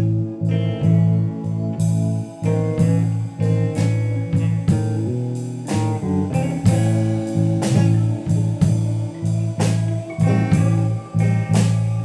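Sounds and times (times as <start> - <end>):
guitar picked notes: 0.0 - 12.0.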